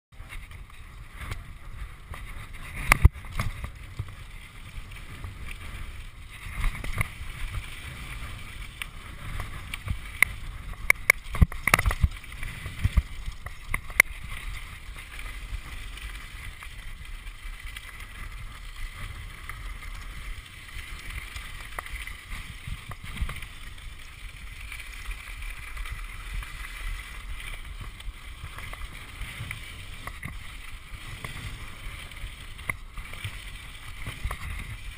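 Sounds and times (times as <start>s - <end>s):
bike tyres rumbling on gravel: 0.1s - 34.9s.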